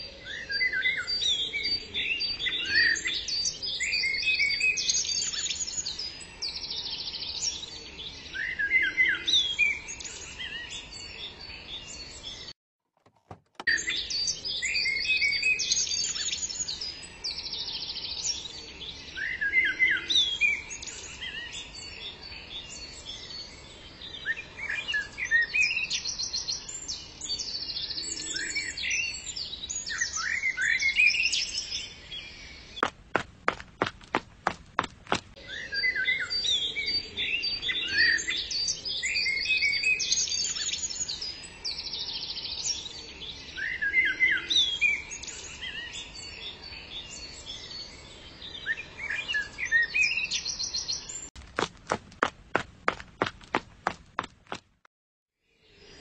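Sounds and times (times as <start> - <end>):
small birds chirping and trilling: 0.0 - 12.5, 13.7 - 54.6.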